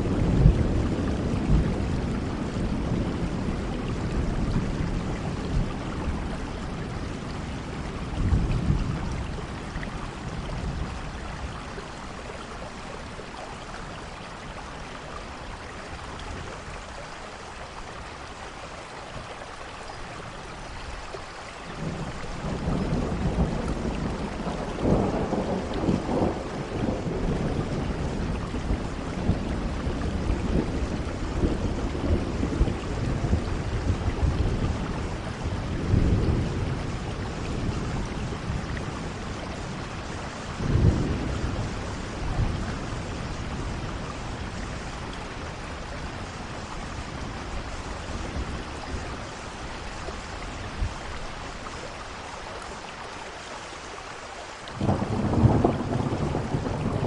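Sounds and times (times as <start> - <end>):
thunder rumbling: 0.0 - 14.7, 21.8 - 51.6, 54.8 - 57.0
steady rain falling: 0.0 - 57.0.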